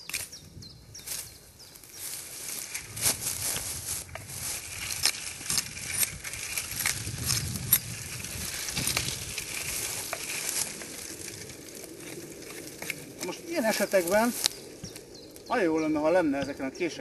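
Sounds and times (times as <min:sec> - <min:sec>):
dry undergrowth crackling: 0:00.0 - 0:17.0.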